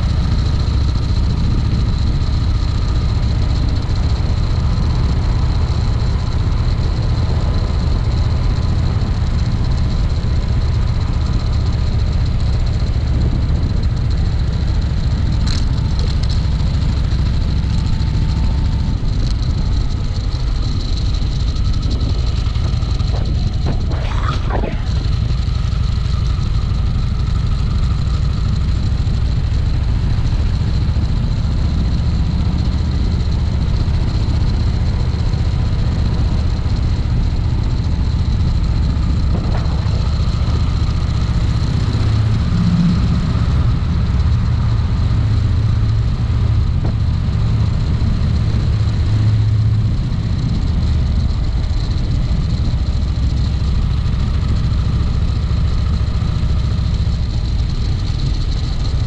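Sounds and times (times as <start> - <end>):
motorcycle engine drone: 0.0 - 59.0.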